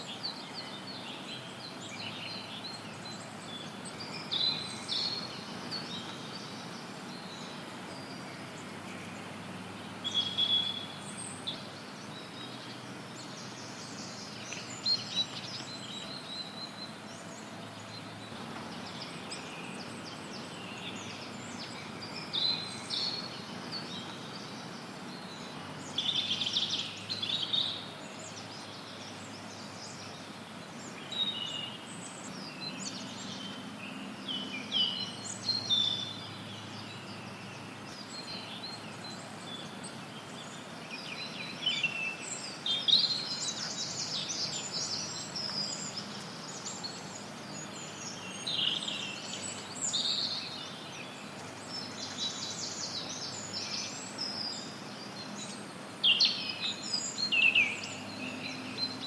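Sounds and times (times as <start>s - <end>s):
birds chirping and singing: 0.0s - 59.0s
white noise hiss: 0.0s - 59.0s.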